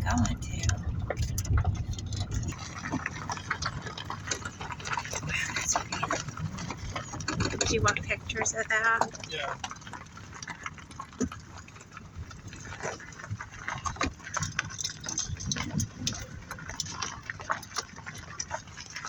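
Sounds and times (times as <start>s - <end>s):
car rolling over rough ground: 0.0s - 19.0s
crackling ticks: 0.0s - 19.0s.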